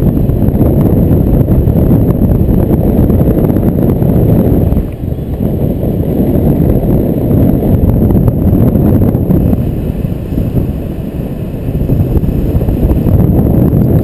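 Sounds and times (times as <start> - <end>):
wind buffeting a microphone: 0.0 - 14.0.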